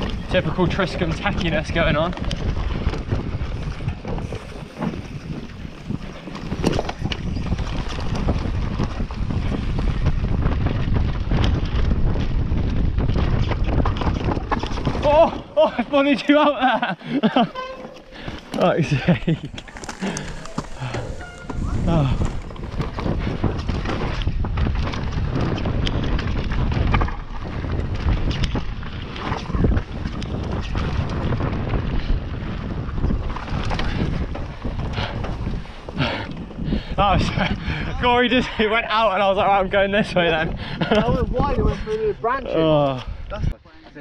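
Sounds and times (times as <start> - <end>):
wind buffeting microphone: 0.0 - 16.2, 17.0 - 44.0
bike rattling clicks and knocks: 0.0 - 16.3, 17.2 - 38.6
tyres rumbling on dirt: 0.0 - 41.8.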